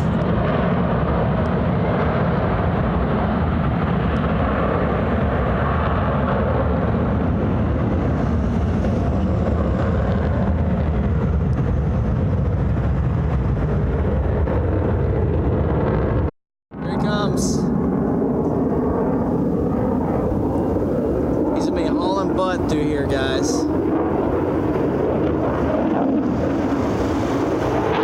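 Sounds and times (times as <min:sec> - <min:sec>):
jet engine thrust: 0:00.0 - 0:28.0.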